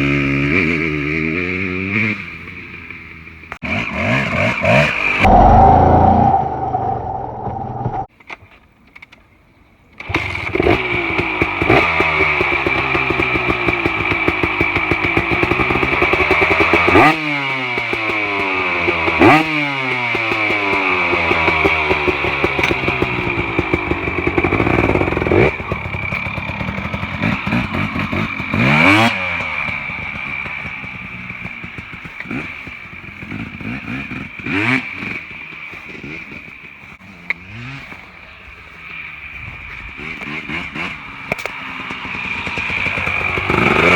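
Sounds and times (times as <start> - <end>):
dirt bike engine revving: 0.0 - 8.1, 10.0 - 43.9.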